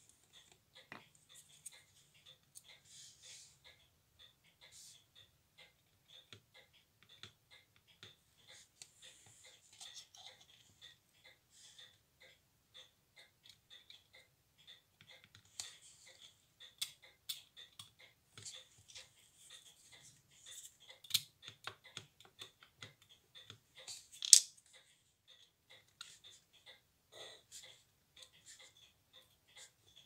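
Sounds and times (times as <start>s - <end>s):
watch ticking: 0.0s - 30.0s.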